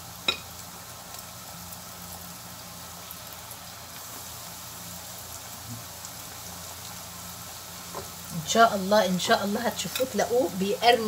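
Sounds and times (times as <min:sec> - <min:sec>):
cauliflower sizzling in hot oil: 0:00.0 - 0:11.0.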